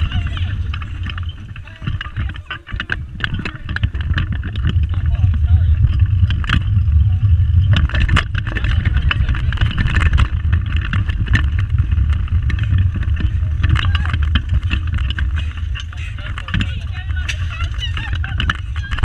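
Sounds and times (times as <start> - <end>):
go-kart wheels rumbling on tarmac: 0.0 - 19.0
rattles and clicks: 0.0 - 19.0.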